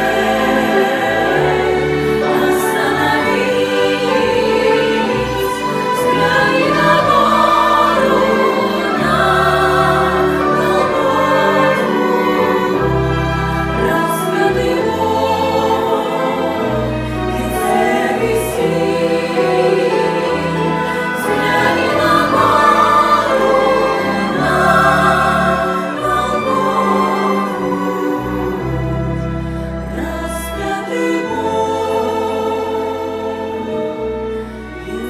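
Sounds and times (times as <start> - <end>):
choir singing: 0.0 - 35.0.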